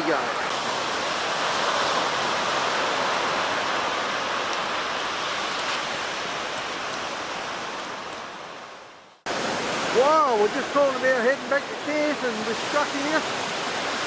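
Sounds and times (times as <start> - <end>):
strong wind: 0.0 - 14.0
surf on a beach: 0.0 - 14.0.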